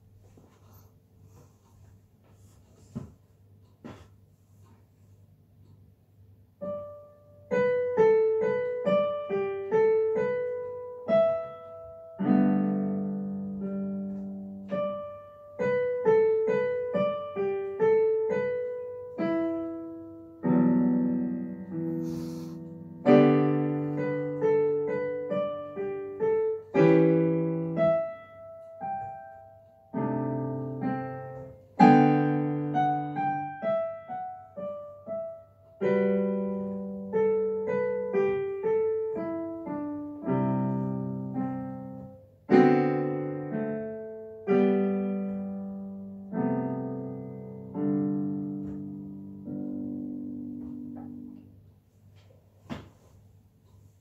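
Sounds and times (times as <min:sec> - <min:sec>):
solo piano piece: 0:06.3 - 0:52.0.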